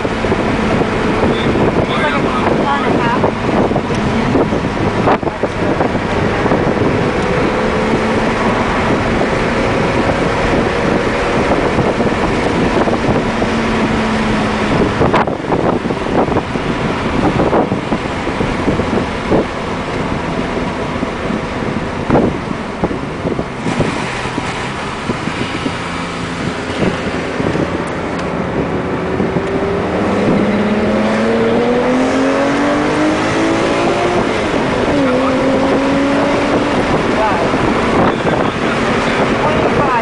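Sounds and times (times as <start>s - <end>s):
car engine accelerating: 0.0s - 40.0s
road and wind noise: 0.0s - 40.0s.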